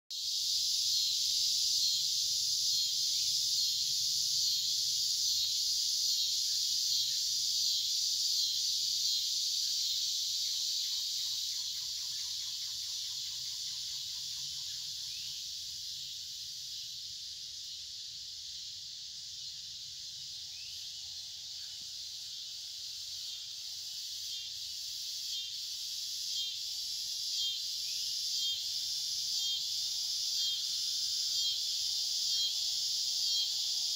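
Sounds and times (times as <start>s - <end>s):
low pulsing insect trill: 0.1s - 33.9s
insects buzzing drone: 0.2s - 33.9s.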